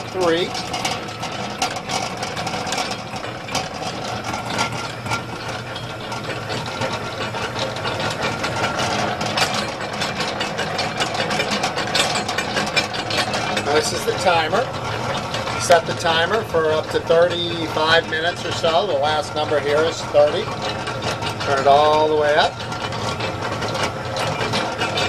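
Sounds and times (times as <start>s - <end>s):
mixer motor hum: 0.0s - 25.0s.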